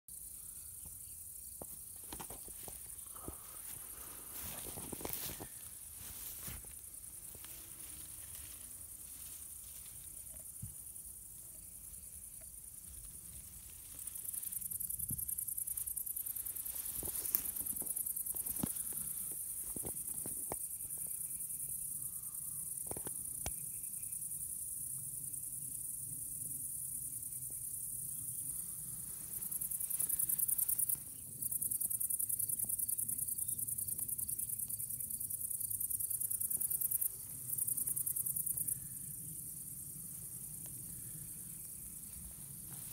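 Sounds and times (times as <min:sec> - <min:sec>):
insects chirring: 0:00.1 - 0:42.9.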